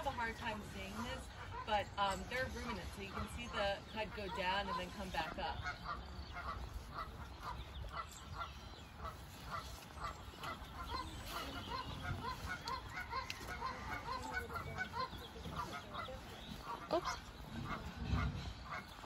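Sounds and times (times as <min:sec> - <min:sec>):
goose-like bird honking: 0:00.9 - 0:19.0.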